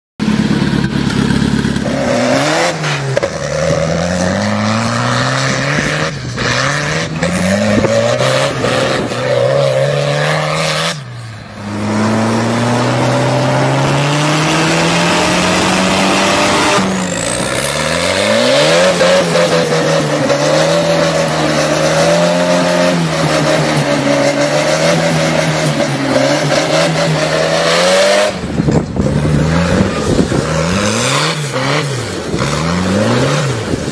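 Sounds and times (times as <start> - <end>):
tractor engine revving hard: 0.2 - 33.9.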